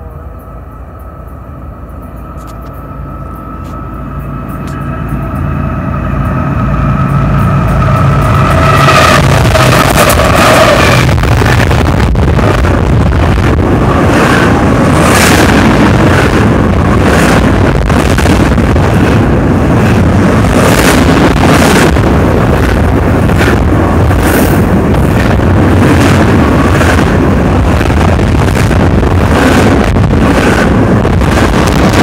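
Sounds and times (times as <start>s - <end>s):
train wheel-on-rail noise: 0.0s - 32.0s
wind buffeting microphone: 3.6s - 32.0s.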